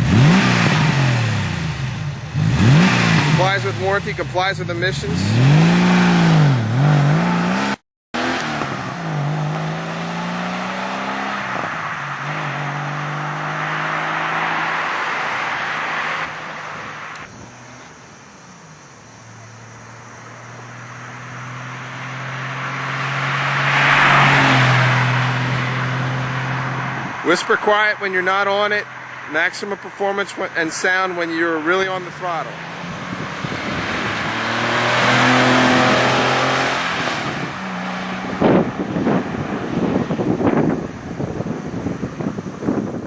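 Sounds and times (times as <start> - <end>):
sports car engine accelerating: 0.0 - 28.2, 31.5 - 43.0.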